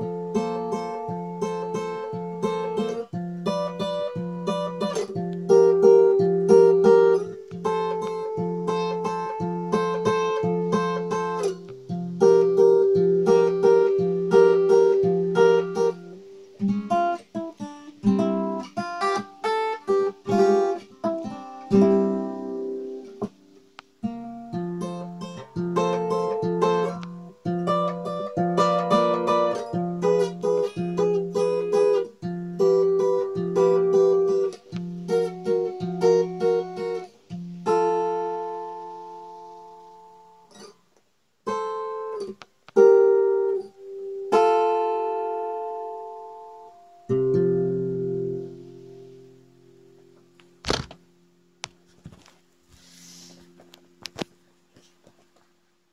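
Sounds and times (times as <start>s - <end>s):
acoustic guitar strumming and picking: 0.0s - 40.8s, 41.4s - 55.2s.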